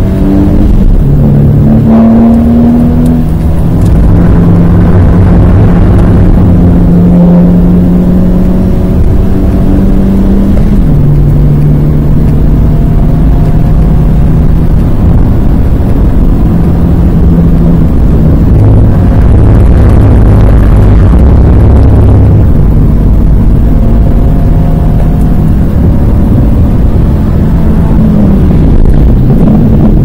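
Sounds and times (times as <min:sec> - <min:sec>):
car engine accelerating: 0:00.0 - 0:30.0
road and wind noise: 0:00.0 - 0:30.0.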